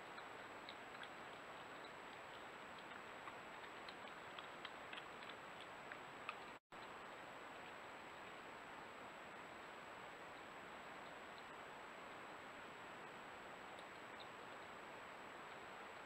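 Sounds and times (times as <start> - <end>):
small clicks of badgers foraging: 0.0 - 16.0
steady hiss: 0.0 - 16.0.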